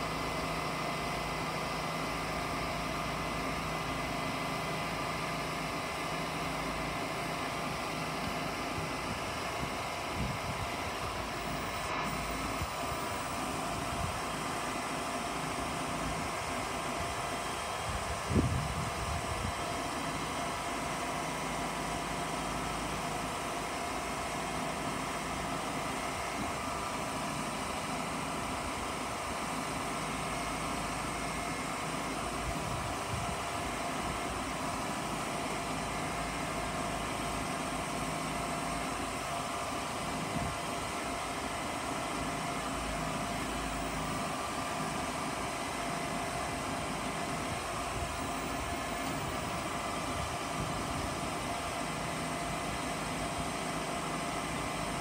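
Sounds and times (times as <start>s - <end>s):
drilling machine hum: 0.0s - 55.0s.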